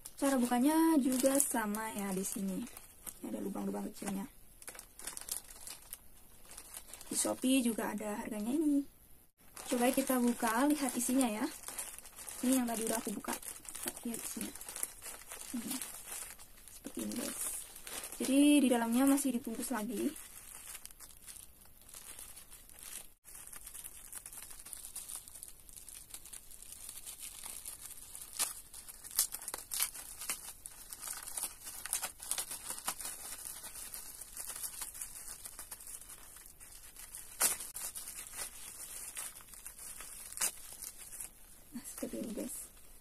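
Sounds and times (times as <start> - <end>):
plastic wrapper crinkling and tearing: 0.0 - 8.8, 9.4 - 42.7.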